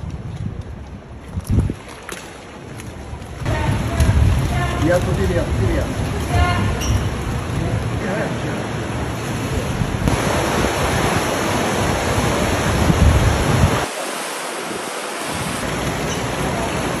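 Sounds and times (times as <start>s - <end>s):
wind buffeting microphone: 0.0s - 8.2s, 8.8s - 17.0s
floodwater rushing: 1.6s - 17.0s.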